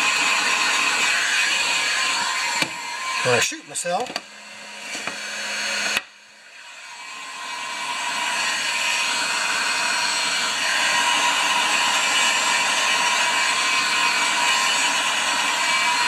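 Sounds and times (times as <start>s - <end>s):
heat gun blowing hot air: 0.0s - 16.0s.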